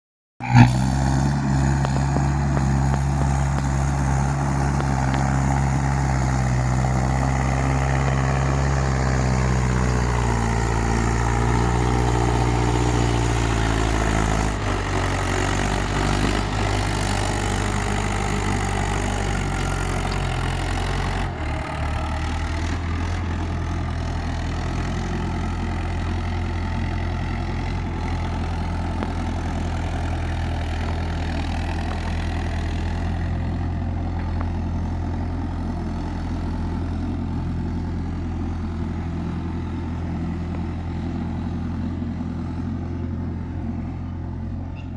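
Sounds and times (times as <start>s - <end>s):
tractor diesel engine running: 0.4s - 44.9s.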